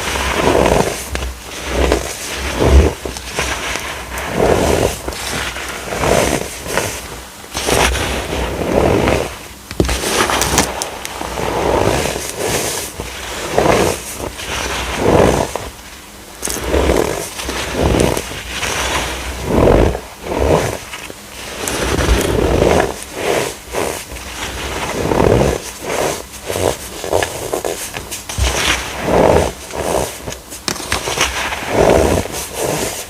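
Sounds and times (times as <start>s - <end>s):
baking soda crunching: 0.0s - 33.0s.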